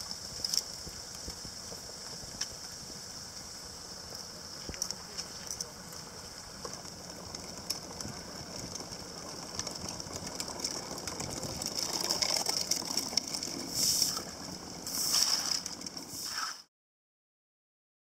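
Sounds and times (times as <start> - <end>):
cart clicking and rattling: 0.0 - 16.2
broom scraping road: 0.0 - 16.7.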